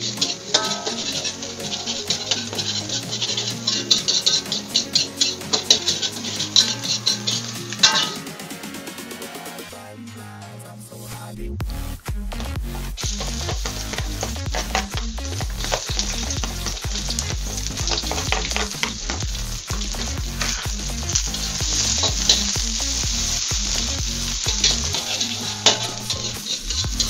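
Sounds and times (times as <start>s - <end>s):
metal spatula scraping wok: 0.0s - 8.7s, 13.0s - 27.0s
garlic and onion sizzling in oil: 0.0s - 9.7s, 12.3s - 27.0s.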